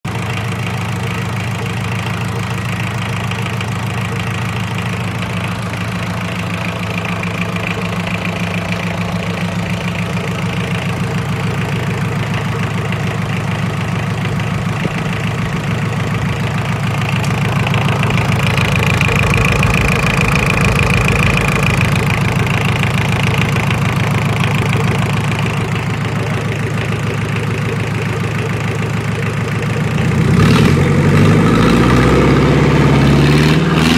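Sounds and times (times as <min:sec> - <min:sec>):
diesel engine idling: 0:00.0 - 0:33.4.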